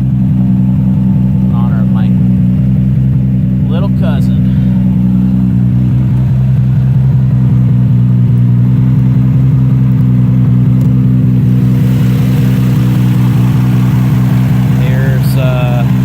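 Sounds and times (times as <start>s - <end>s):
race car engine idling loudly: 0.0s - 16.0s.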